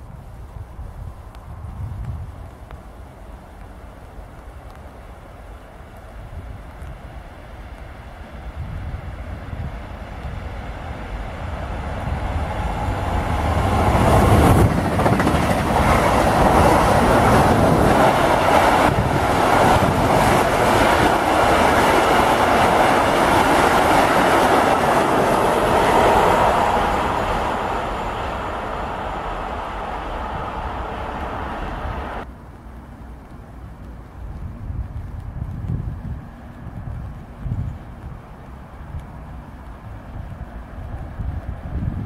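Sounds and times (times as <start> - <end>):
trains rumbling and wheels clattering: 0.0 - 42.0.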